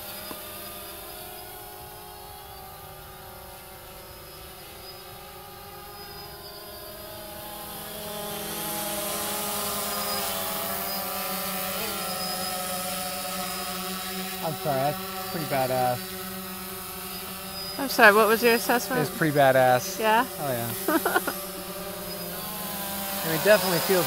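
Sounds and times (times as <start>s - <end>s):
quadcopter hovering buzzing whine: 0.0s - 24.0s.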